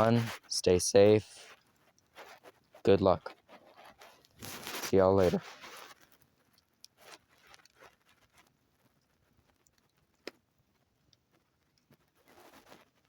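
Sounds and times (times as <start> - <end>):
soft rustle: 0.0 - 13.0.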